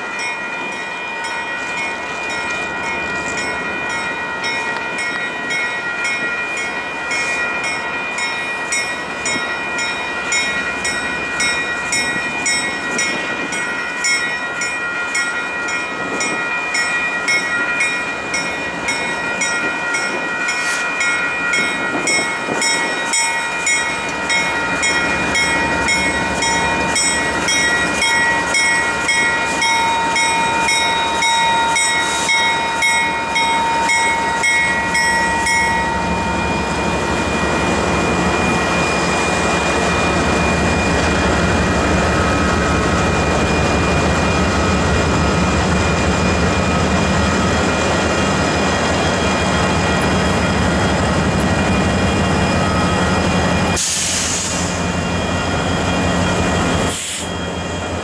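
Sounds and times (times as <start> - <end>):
crossing bell ringing: 0.0 - 58.0
diesel locomotive engine rumble: 0.0 - 58.0.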